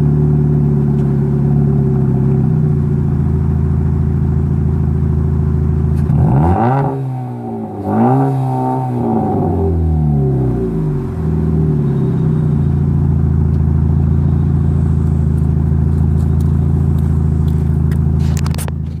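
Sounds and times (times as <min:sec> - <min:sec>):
car exhaust idle rumble: 0:00.0 - 0:19.0.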